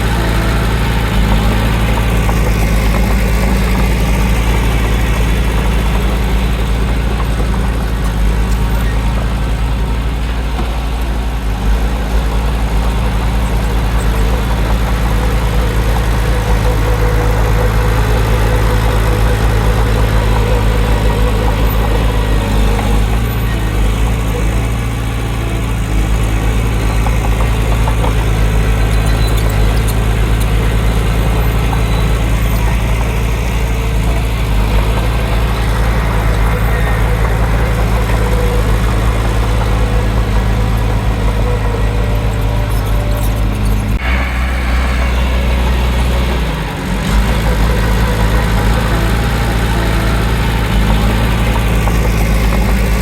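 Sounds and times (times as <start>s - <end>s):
diesel engine of heavy machinery: 0.0s - 53.0s.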